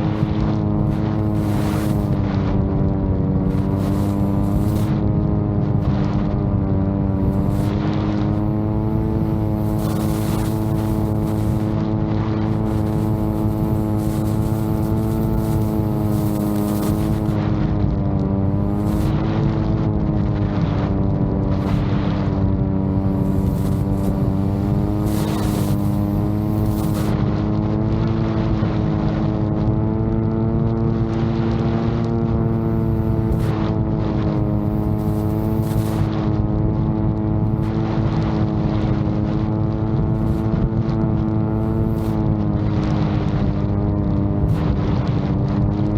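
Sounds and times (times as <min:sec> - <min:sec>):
drone propellers humming: 0:00.0 - 0:45.9
wind buffeting microphone: 0:00.0 - 0:45.9.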